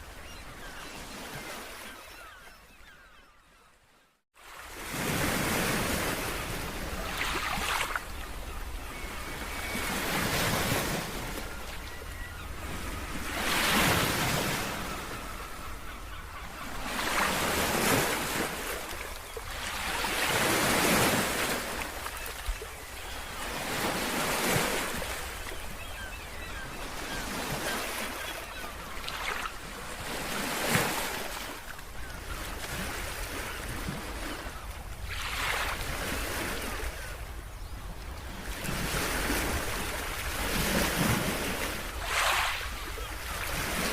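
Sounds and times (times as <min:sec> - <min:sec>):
sea waves breaking on shore: 0:04.4 - 0:43.9.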